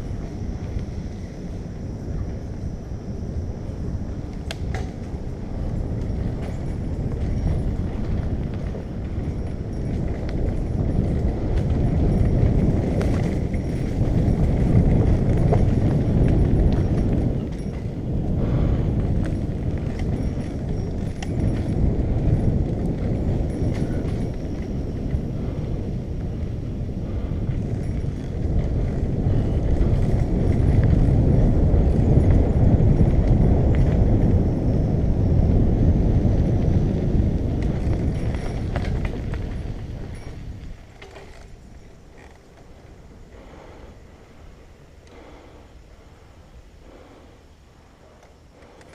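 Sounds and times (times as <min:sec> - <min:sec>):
wind rumbling on microphone: 0:00.0 - 0:48.9
bicycle knocks and rattles: 0:03.6 - 0:43.7.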